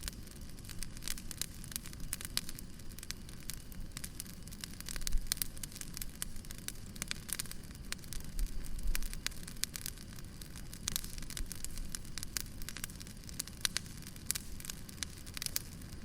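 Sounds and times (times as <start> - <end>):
fire rumbling: 0.0 - 16.0
wood fire crackling and popping: 0.0 - 16.0.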